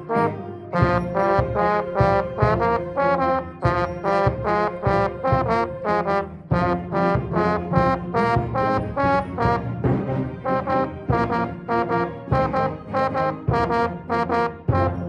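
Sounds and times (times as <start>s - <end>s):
band with trombones playing: 0.0s - 15.0s.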